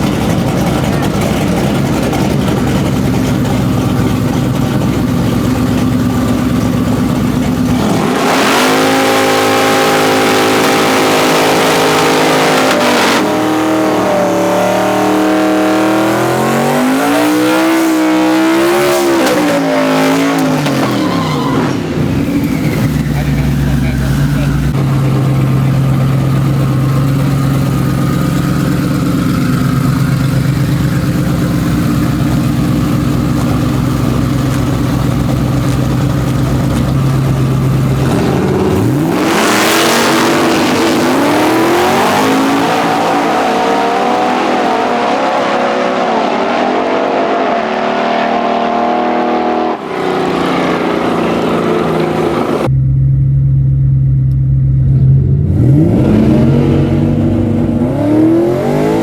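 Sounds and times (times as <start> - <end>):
vehicle engine accelerating through gears: 0.0 - 59.0.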